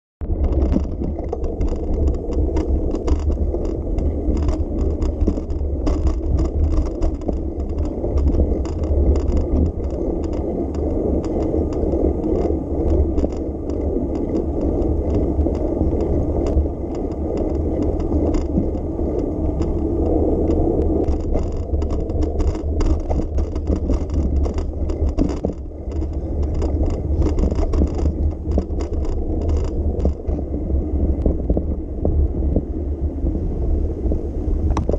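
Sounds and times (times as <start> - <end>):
small rattles and clicks: 0.2 - 32.7, 34.6 - 34.9
bicycle tyres rolling: 0.2 - 34.9
wind rumble on microphone: 0.2 - 34.9.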